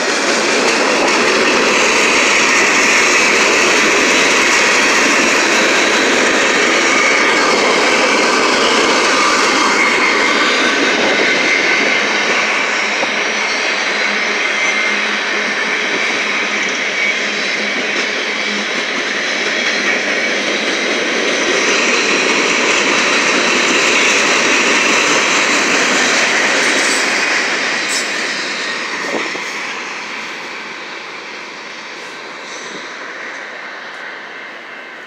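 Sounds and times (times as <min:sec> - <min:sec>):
freight train wheels clattering: 0:00.0 - 0:34.2.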